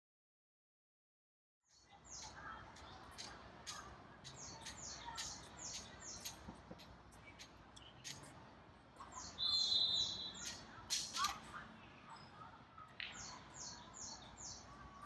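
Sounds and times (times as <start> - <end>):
faint background noise: 1.7 - 15.0
small birds chirping: 1.7 - 15.0.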